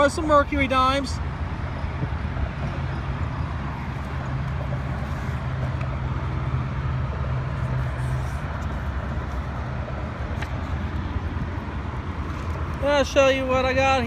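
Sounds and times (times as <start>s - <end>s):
traffic noise: 0.0s - 14.0s
vehicle engine humming: 0.0s - 14.0s.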